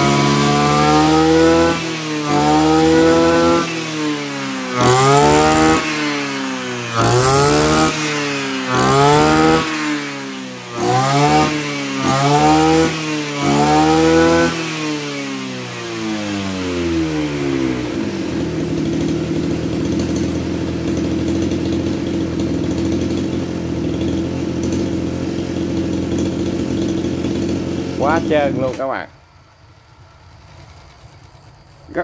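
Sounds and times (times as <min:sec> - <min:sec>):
brush cutter engine revving and idling: 0:00.0 - 0:32.0.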